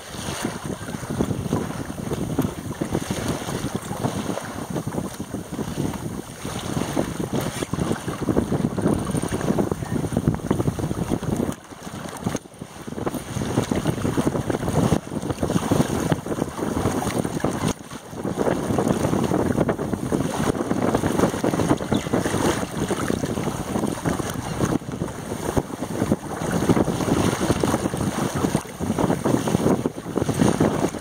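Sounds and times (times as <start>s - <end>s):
water splashing along hull: 0.0s - 31.0s
wind buffeting microphone: 0.0s - 31.0s.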